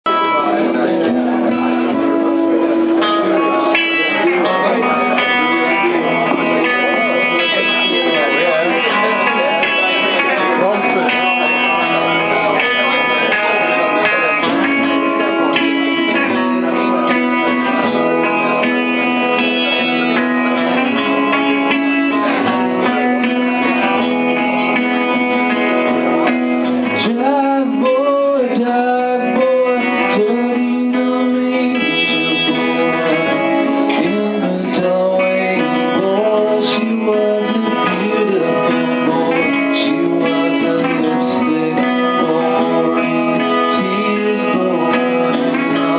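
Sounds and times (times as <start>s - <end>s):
strummed guitar: 0.0s - 45.9s
live band playing: 0.1s - 45.9s.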